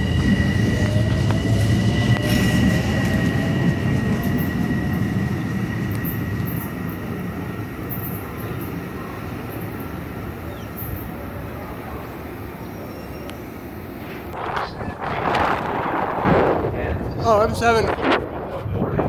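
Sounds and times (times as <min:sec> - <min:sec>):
electric train rumble and whine: 0:00.0 - 0:19.0.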